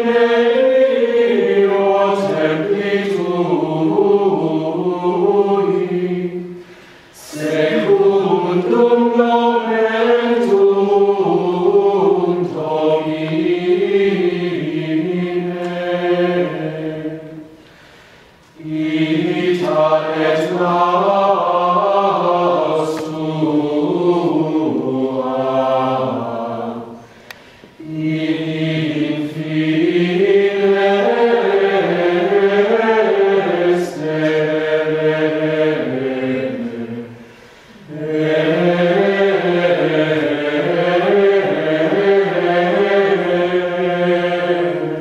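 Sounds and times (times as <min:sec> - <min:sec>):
choir singing plainchant: 0:00.0 - 0:17.8, 0:18.5 - 0:45.0.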